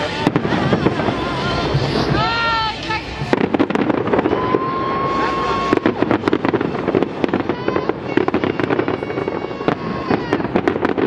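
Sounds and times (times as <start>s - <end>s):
fireworks bangs and crackles: 0.0s - 11.0s
high firework whistle: 0.0s - 11.0s.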